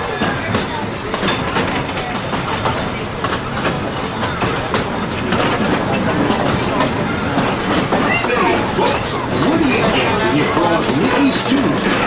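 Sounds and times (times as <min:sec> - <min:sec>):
train rumbling on track: 0:00.0 - 0:12.0
wheels clicking over rails: 0:00.0 - 0:12.0.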